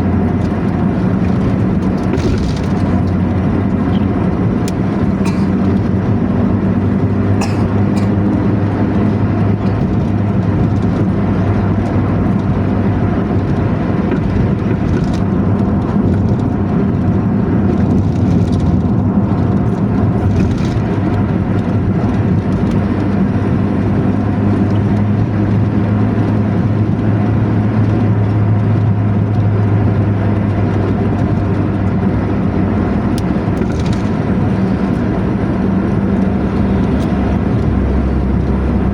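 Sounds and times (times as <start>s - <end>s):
bus engine running: 0.0s - 38.9s.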